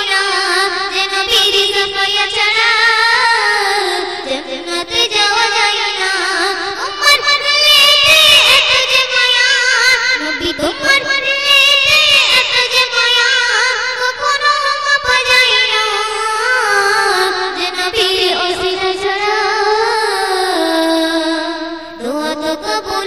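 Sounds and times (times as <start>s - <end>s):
girl singing through microphone: 0.0s - 23.0s.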